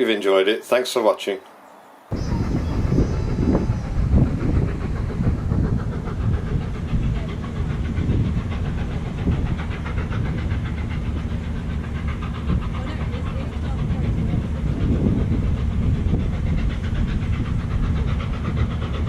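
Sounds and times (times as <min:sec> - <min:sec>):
locomotive exhaust beat: 0:02.1 - 0:19.0
steam hiss: 0:02.1 - 0:19.0
steam locomotive rumble: 0:02.1 - 0:19.0.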